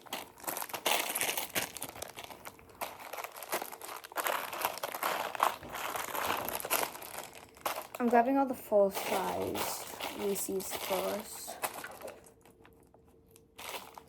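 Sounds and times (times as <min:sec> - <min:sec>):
candy wrappers crinkling: 0:00.0 - 0:14.0.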